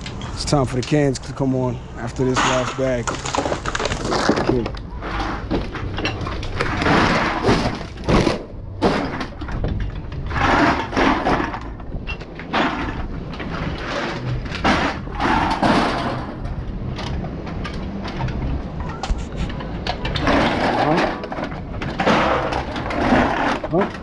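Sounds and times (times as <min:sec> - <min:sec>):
plastic bottles and cans clattering: 0:02.2 - 0:24.0.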